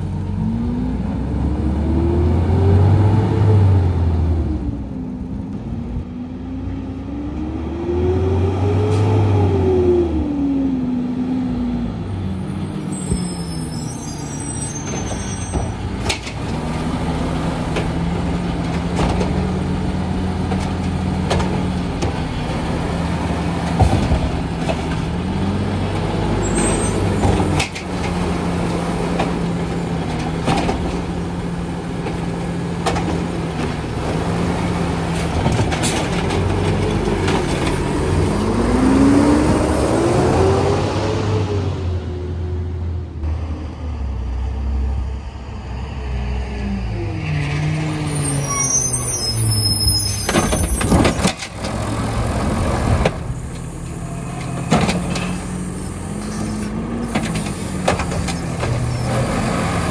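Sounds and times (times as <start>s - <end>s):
garbage truck engine: 0.0s - 59.9s.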